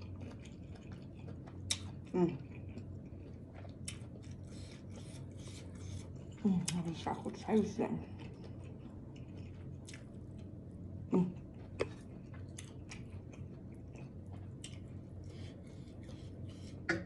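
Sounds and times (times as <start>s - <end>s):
person chewing with wet smacks: 0.0s - 7.4s, 8.1s - 17.0s.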